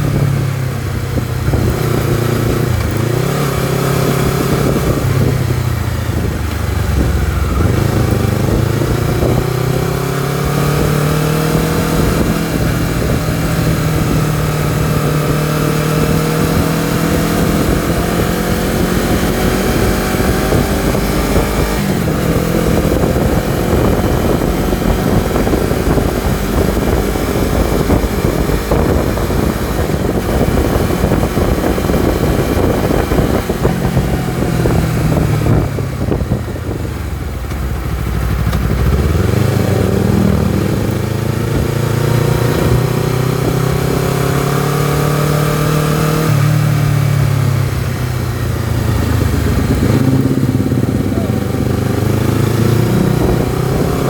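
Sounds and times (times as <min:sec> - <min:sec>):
motorcycle engine and exhaust: 0:00.0 - 0:54.0
wind rush: 0:00.0 - 0:54.0.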